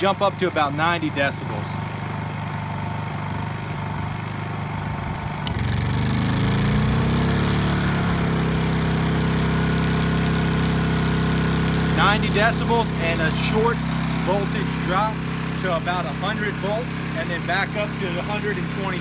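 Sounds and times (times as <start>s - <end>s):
generator running: 0.0s - 19.0s.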